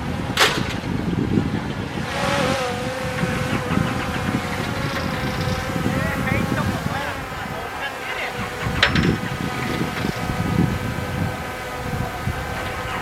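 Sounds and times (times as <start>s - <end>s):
steady whine: 1.4s - 13.0s.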